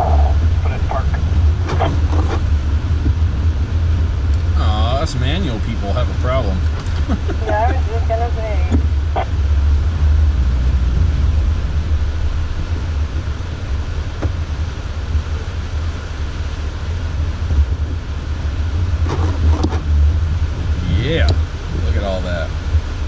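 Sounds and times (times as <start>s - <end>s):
car engine drone inside cab: 0.0s - 23.0s.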